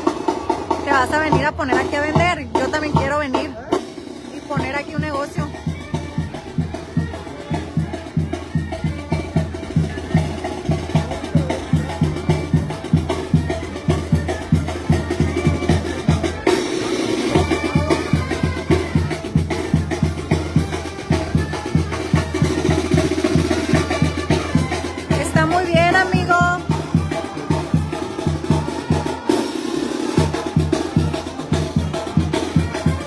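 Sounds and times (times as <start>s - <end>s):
brass band playing: 0.0s - 33.0s
drums keeping a beat: 0.0s - 33.0s.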